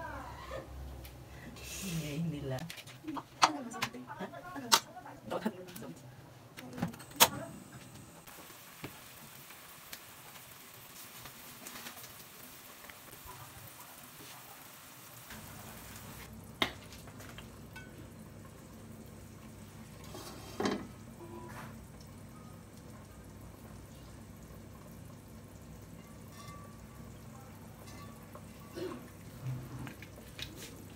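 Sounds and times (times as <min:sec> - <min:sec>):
pot simmering hiss: 0:01.3 - 0:02.6, 0:07.1 - 0:30.9.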